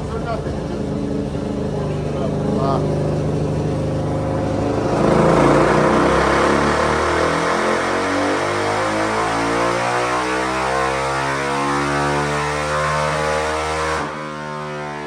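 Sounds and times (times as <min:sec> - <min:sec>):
motorcycle engine revving on dyno: 0:00.0 - 0:15.0.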